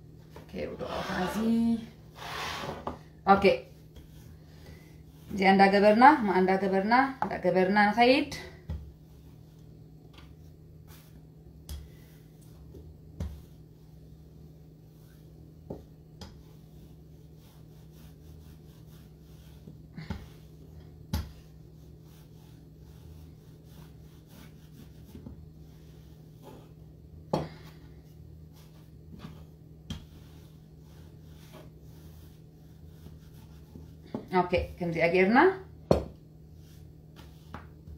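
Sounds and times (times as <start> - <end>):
steady low hum: 0.0 - 37.9
rolling pin rubbing dough: 0.4 - 37.9.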